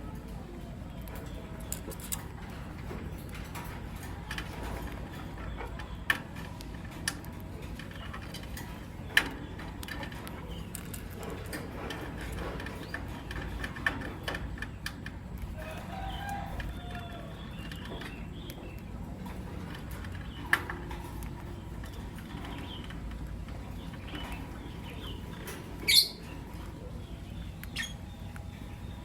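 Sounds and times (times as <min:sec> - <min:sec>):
lovebirds chirping: 0:00.0 - 0:29.0.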